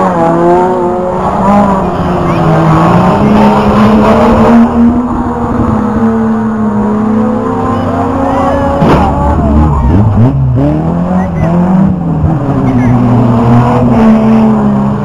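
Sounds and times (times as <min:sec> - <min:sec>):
race car engines revving past: 0:00.0 - 0:15.0.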